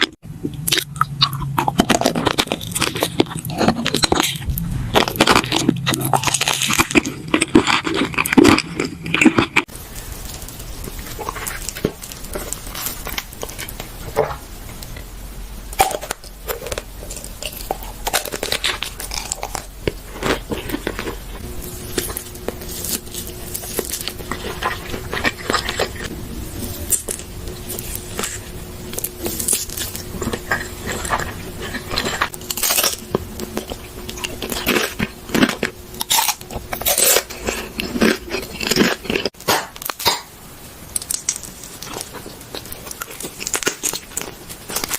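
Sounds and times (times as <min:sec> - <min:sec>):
crunching and chewing: 0:00.0 - 0:15.1, 0:15.7 - 0:40.3, 0:40.9 - 0:44.9.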